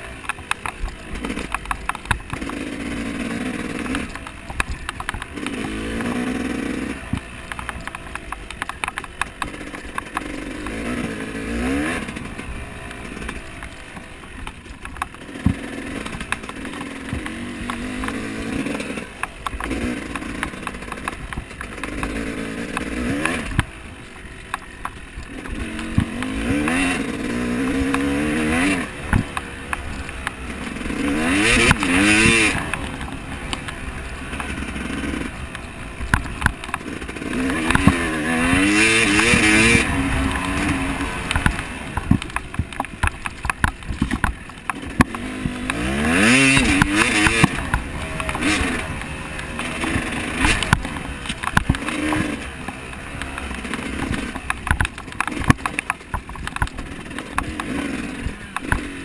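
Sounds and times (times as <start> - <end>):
motorcycle engine revving: 0.0 - 59.0
sharp knocks and clatter: 0.0 - 59.0.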